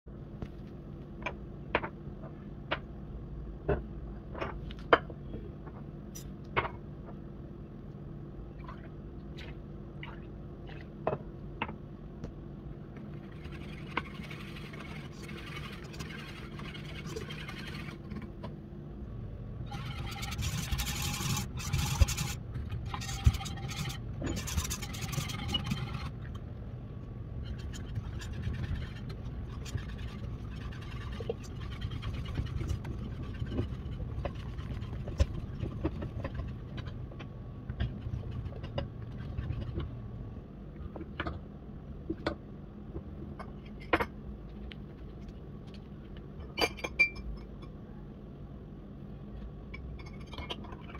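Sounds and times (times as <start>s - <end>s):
low steady hum: 0.1s - 50.9s.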